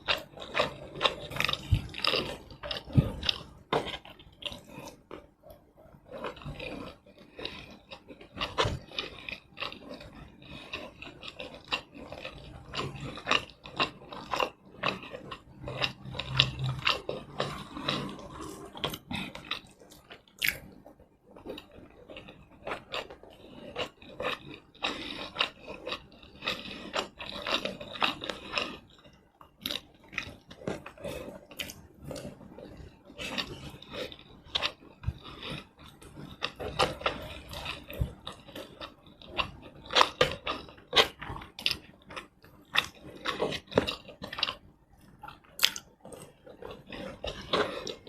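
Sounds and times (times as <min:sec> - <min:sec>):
chewing and mouth smacking: 0:00.0 - 0:48.0.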